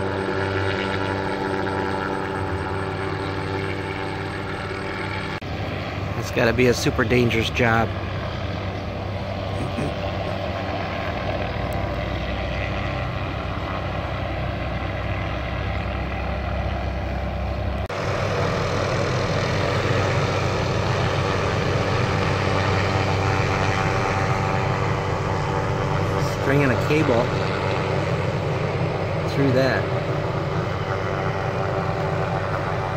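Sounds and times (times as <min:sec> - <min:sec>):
low engine drone: 0:00.0 - 0:32.9.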